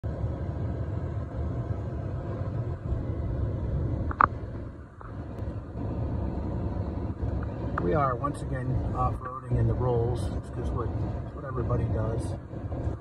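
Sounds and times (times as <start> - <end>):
car cabin tyre rumble: 0.0 - 13.0.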